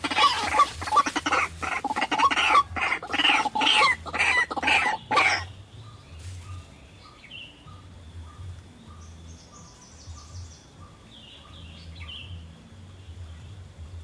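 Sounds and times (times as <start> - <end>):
faint bird chirps: 0.0 - 13.7
low pulsing hum: 0.0 - 14.0.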